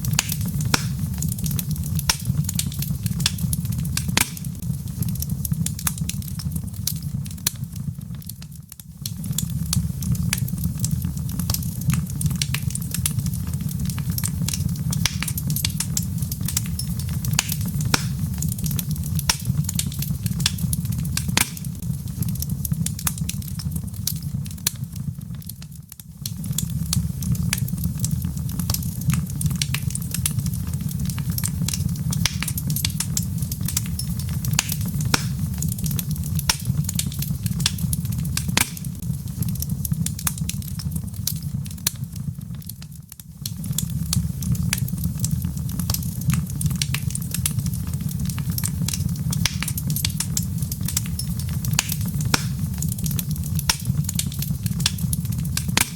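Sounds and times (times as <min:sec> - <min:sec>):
fire low rumble: 0:00.0 - 0:55.9
log fire crackling and popping: 0:00.0 - 0:55.9.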